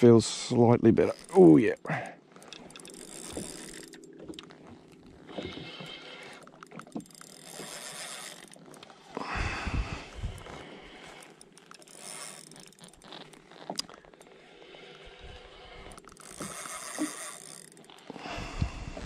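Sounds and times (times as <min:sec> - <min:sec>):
water lapping against hull: 0:00.9 - 0:19.0
small clicks: 0:01.0 - 0:09.2, 0:10.2 - 0:14.3, 0:15.9 - 0:19.0.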